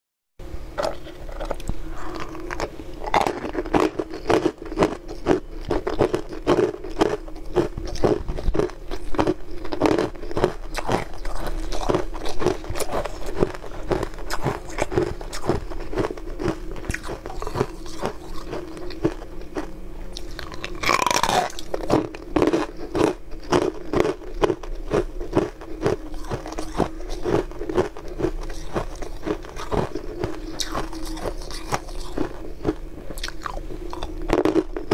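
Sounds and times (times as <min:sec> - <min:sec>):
steady low hum: 0:00.4 - 0:34.9.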